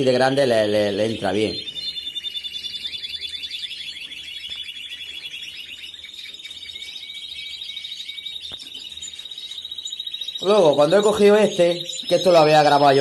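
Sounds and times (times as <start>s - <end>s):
canary singing fast trills: 0.0s - 13.0s.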